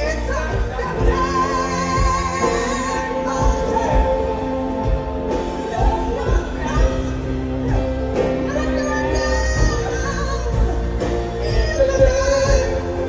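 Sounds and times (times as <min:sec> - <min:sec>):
rock band playing ballad: 0:00.0 - 0:13.0.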